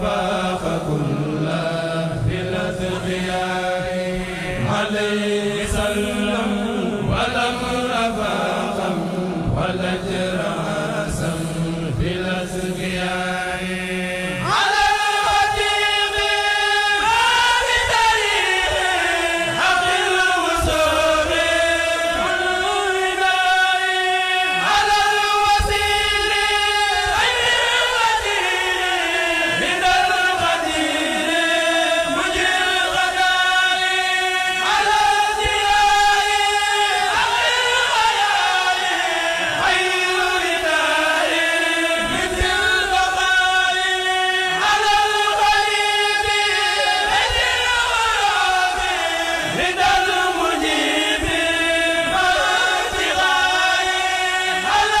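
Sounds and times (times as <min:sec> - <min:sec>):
men chanting in unison: 0:00.0 - 0:55.0.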